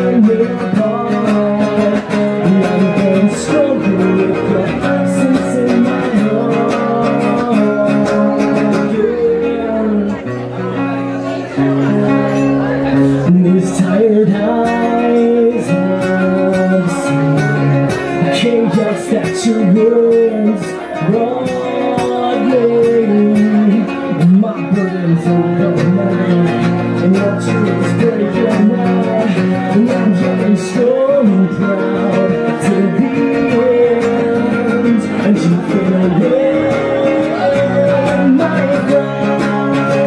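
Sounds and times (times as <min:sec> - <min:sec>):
man singing: 0:00.0 - 0:40.0
strummed acoustic guitar: 0:00.0 - 0:40.0.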